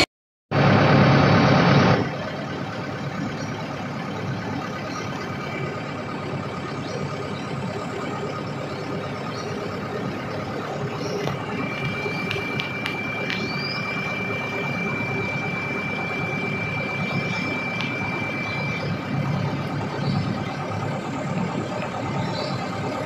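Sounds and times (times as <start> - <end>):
truck diesel engine droning: 0.0 - 23.0.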